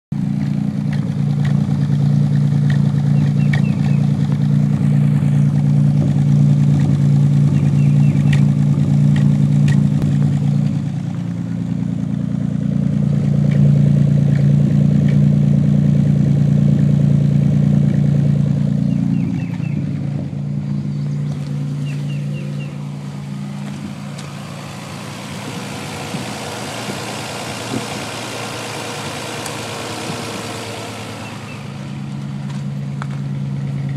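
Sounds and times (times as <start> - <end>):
car engine idling: 0.1 - 33.9
engine popping misfire: 0.2 - 33.9.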